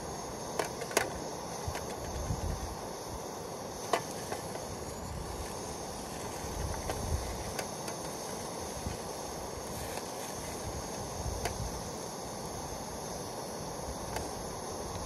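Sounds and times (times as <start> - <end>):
gas stove hissing: 0.0 - 15.0.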